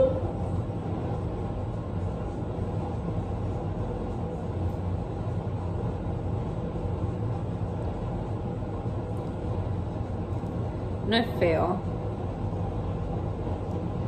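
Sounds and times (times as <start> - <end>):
low rumbling room hum: 0.0 - 14.0.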